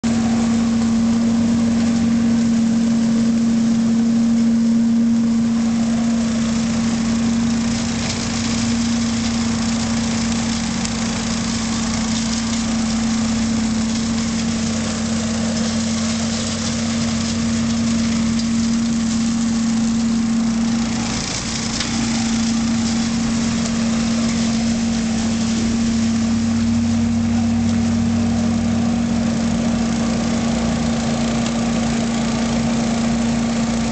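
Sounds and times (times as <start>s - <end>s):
engine hum: 0.0s - 33.9s
leaf vacuum rushing hiss: 0.0s - 33.9s.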